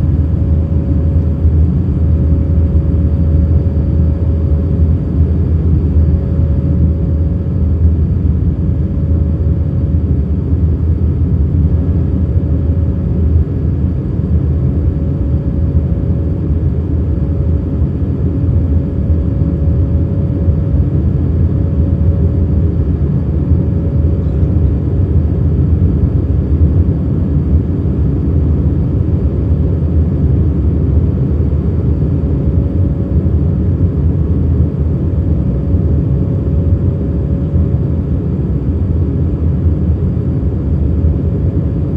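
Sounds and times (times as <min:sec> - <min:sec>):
aircraft cabin engine drone: 0:00.0 - 0:41.9
faint steady whine: 0:00.0 - 0:41.9.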